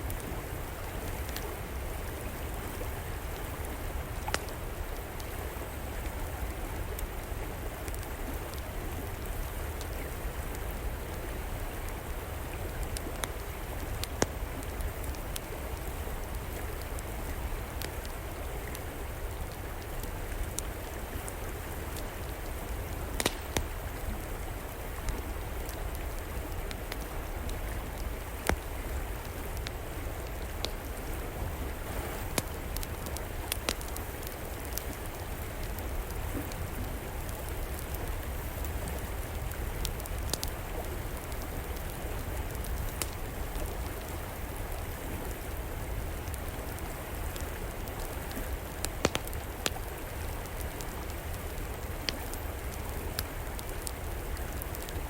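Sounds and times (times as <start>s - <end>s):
river flowing: 0.0s - 55.0s
wood fire crackling: 0.0s - 55.0s.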